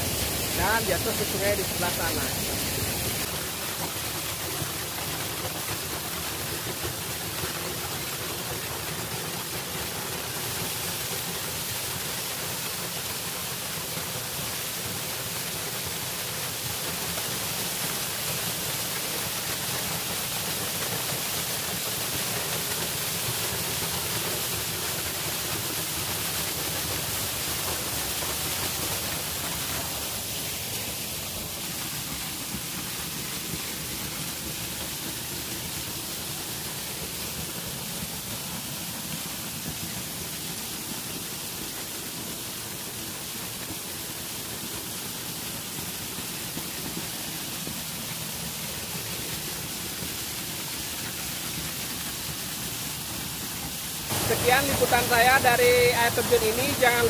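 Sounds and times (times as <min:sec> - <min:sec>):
waterfall splashing: 0:00.0 - 0:57.0.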